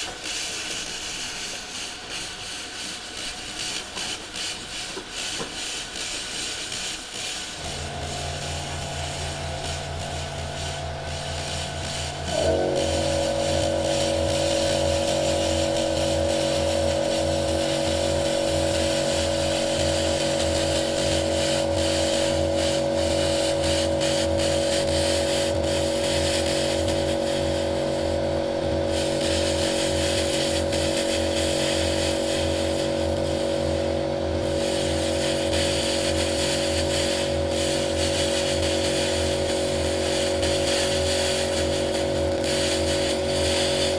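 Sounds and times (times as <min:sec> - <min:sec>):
laser cleaning machine buzzing: 0:00.0 - 0:43.9.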